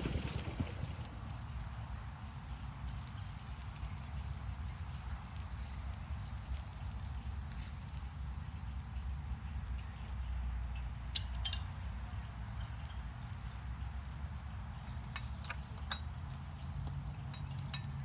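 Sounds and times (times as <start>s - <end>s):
sprinkler pumps low rumble: 0.0s - 18.0s.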